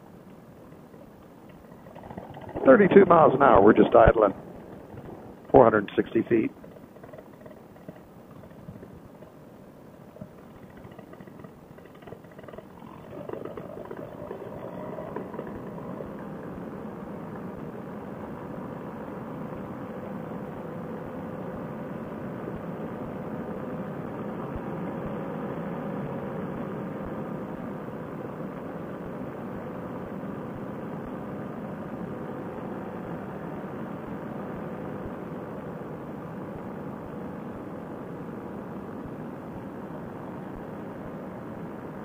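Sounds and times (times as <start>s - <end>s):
paramotor engine drone: 0.0s - 42.0s.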